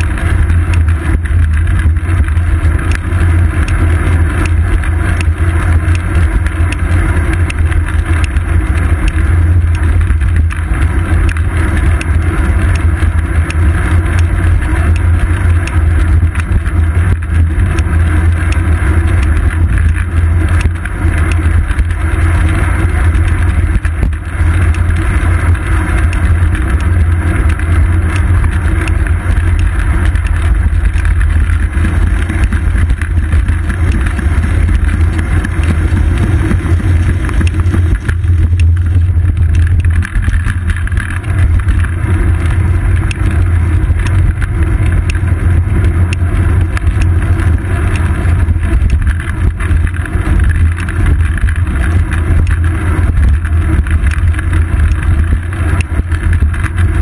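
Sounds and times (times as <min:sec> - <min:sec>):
bicycle road vibration: 0:00.0 - 0:57.0
wind rumble: 0:00.0 - 0:57.0.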